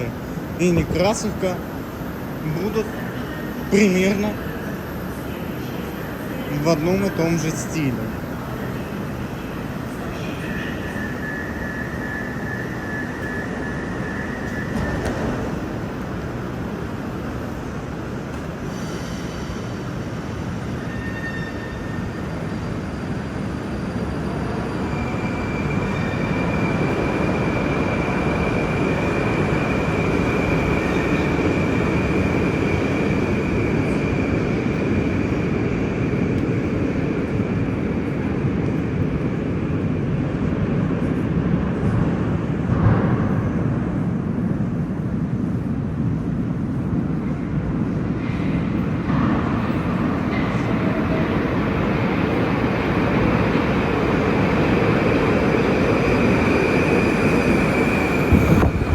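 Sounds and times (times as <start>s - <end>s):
train rumbling along track: 0.0s - 58.9s.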